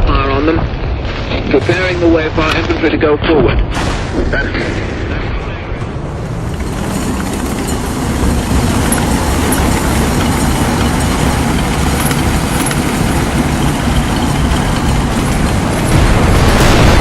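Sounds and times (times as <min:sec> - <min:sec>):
tank engine rumbling: 0:00.0 - 0:17.0.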